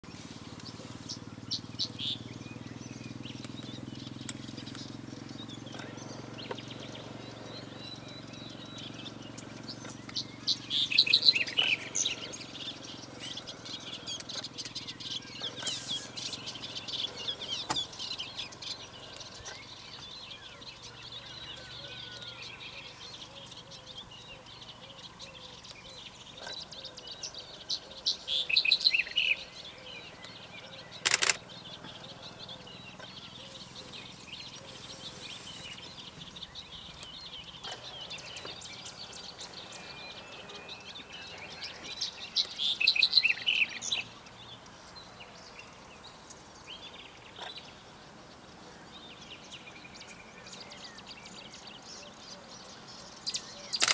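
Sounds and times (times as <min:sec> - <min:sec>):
bird chirping: 0:00.0 - 0:53.9.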